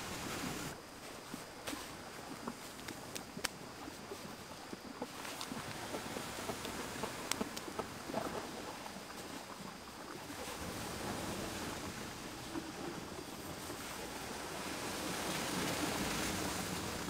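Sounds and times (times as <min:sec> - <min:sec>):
surf washing on beach: 0:00.0 - 0:17.0
wind: 0:00.0 - 0:17.0.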